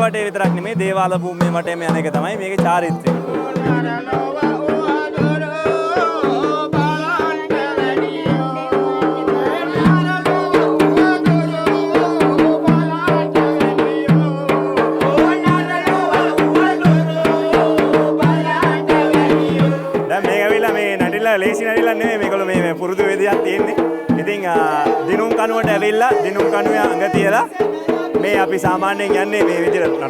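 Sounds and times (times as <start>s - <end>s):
hand drums beating: 0.0s - 30.0s
person singing: 0.0s - 30.0s.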